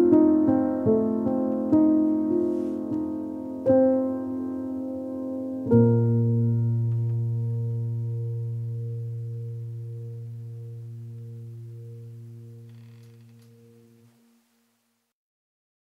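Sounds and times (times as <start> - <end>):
piano chords: 0.0 - 14.1.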